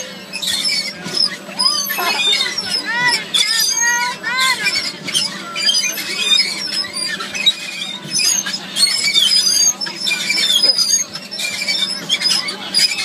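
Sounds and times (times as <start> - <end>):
children squealing: 0.0 - 13.0
overlapping chatter: 0.0 - 13.0.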